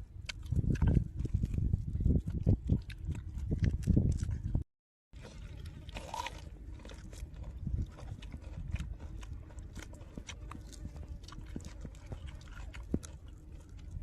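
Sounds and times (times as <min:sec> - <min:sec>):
person chewing food: 0:00.1 - 0:04.6, 0:05.2 - 0:14.0.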